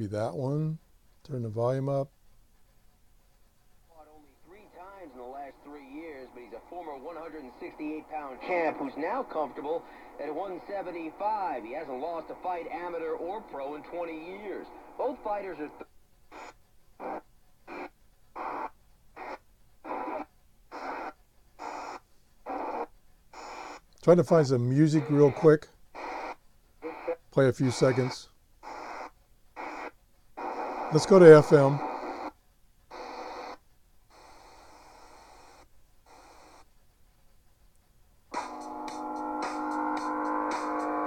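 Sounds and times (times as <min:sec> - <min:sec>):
radio static bursts: 0:03.9 - 0:36.7, 0:38.3 - 0:41.0.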